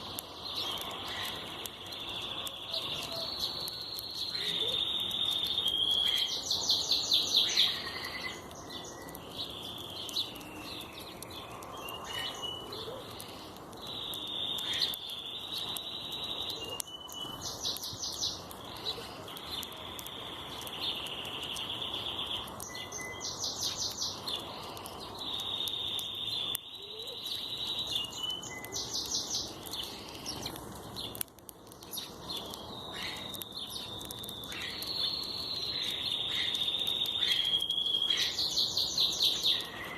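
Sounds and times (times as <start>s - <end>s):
outdoor background hum: 0.0s - 39.9s
bird singing with trill: 0.4s - 31.2s, 31.8s - 39.9s.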